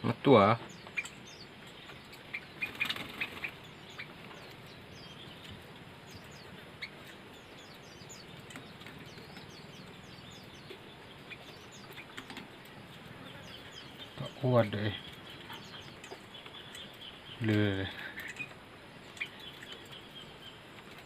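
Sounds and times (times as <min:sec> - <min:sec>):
bird chirping high thin calls: 0:00.4 - 0:21.0.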